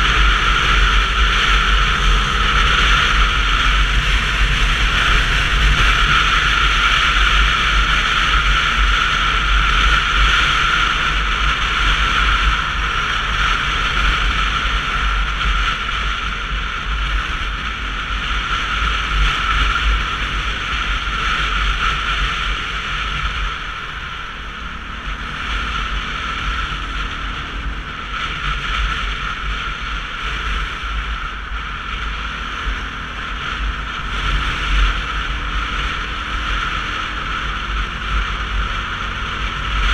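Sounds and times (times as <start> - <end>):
motorcycle rumble on the move: 0.0 - 39.9.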